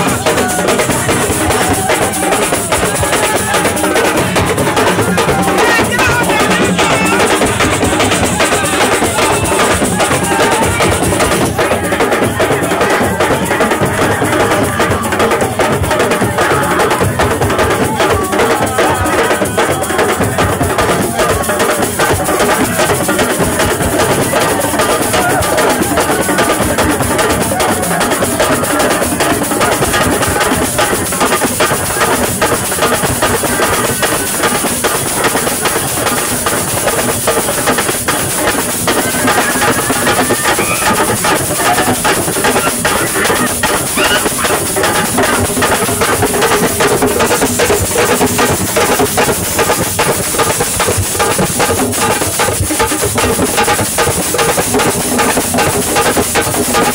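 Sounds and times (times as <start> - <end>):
drum percussion music: 0.0 - 56.9.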